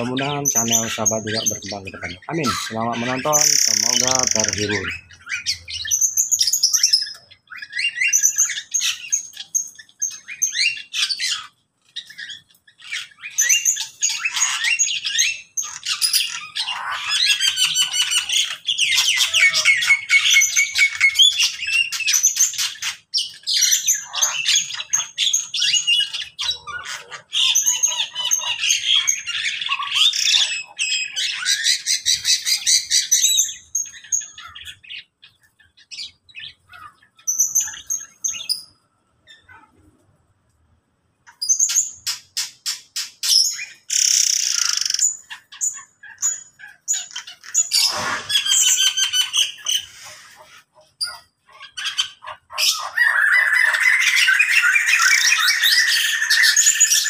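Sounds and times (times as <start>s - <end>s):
cage birds calling: 0.0s - 57.0s.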